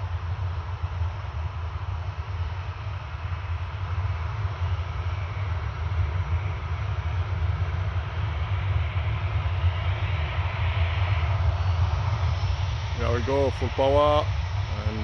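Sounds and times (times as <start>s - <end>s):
distant jet engines rumbling: 0.0s - 15.0s
jet engine whine spooling up: 0.0s - 15.0s.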